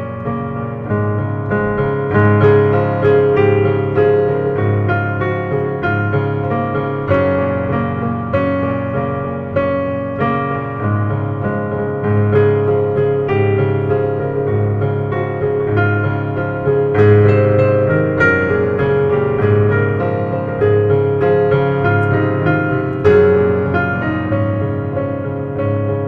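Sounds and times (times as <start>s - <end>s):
piano chords over bass line: 0.0s - 26.0s.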